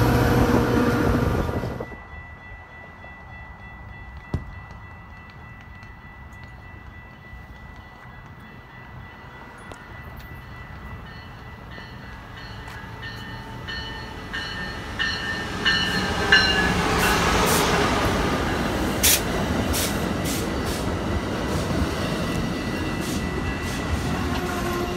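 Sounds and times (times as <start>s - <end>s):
train passing at speed: 0.0s - 24.9s.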